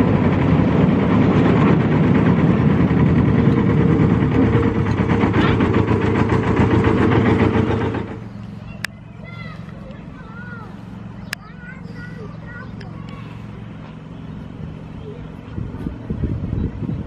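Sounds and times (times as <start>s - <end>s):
miniature train running on track: 0.0s - 15.6s
train engine running: 0.0s - 17.0s.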